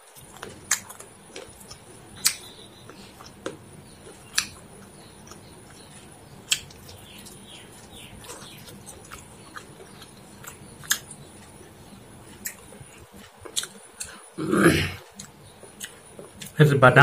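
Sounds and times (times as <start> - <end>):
person chewing food: 0.0 - 16.6.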